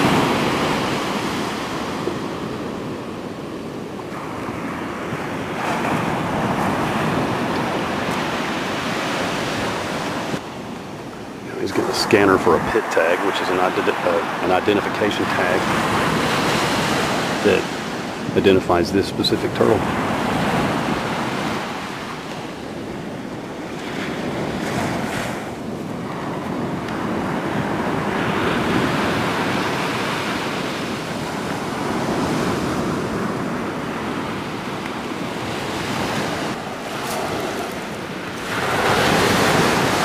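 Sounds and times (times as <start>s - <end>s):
ocean surf washing onto beach: 0.0s - 40.0s
wind on microphone: 0.0s - 40.0s.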